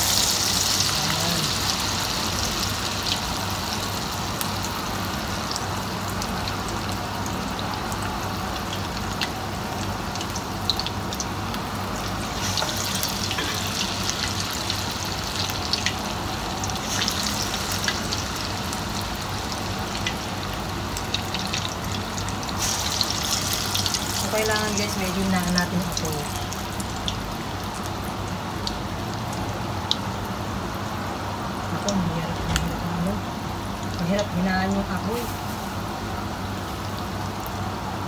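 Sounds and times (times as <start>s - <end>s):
pakora deep-frying in hot oil: 0.0s - 38.0s.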